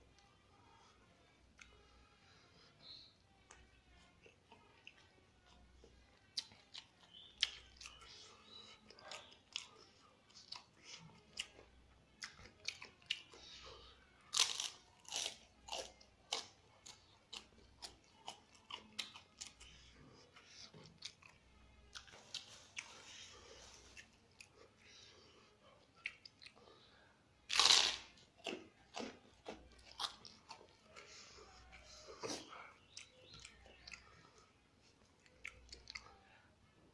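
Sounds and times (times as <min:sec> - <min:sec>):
crunchy chewing: 0:03.4 - 0:36.2.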